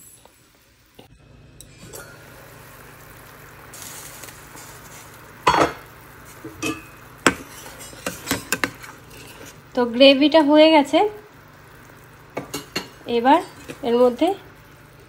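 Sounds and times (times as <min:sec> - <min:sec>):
gravy simmering and sizzling: 0:00.0 - 0:15.0.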